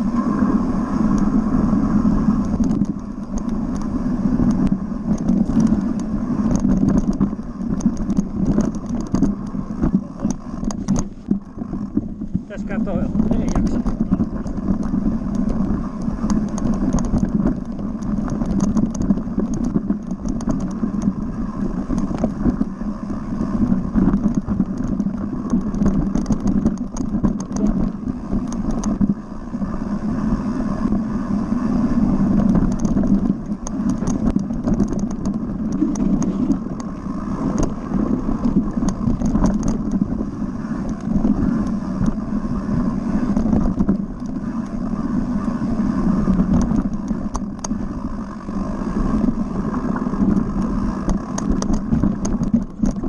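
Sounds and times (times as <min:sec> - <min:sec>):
bike clicking and rattling: 0:00.0 - 0:53.0
bike tyres rumbling on dirt: 0:00.0 - 0:53.0.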